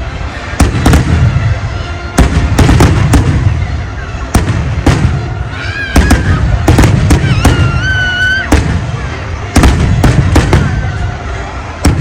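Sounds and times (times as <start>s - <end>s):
fireworks bangs: 0.4s - 12.0s.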